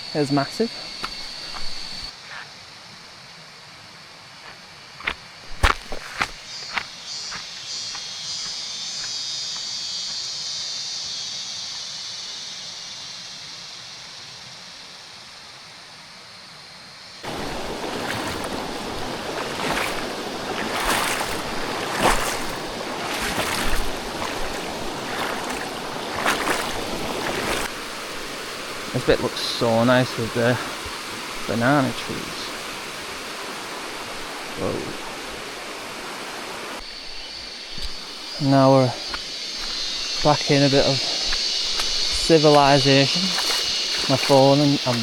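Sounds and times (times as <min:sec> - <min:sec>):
high steady hiss: 0:00.0 - 0:45.0.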